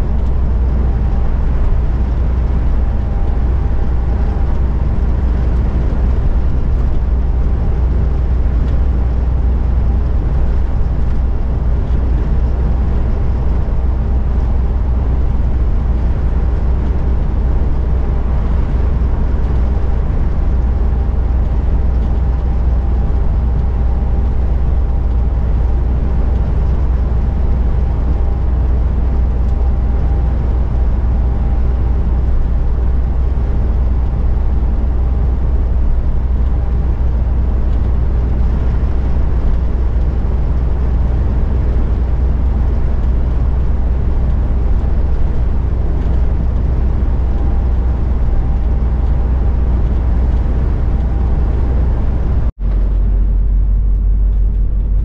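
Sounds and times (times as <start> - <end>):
truck diesel engine drone: 0.0 - 55.0
tyre and road noise: 0.0 - 55.0.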